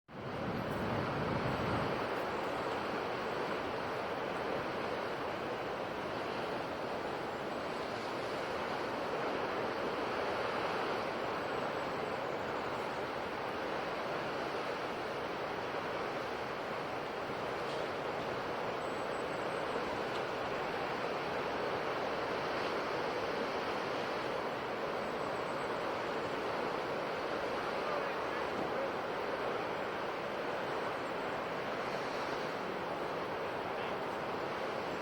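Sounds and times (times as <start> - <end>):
ocean waves on shore: 0.1 - 35.0.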